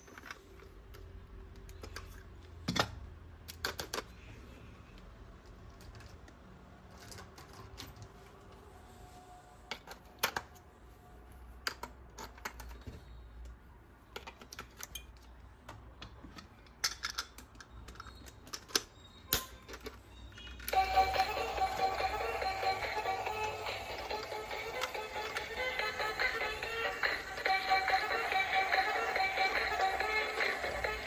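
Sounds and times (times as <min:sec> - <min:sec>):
plastic toys and packaging clicking: 0:00.0 - 0:08.7, 0:09.7 - 0:10.8, 0:11.4 - 0:31.0.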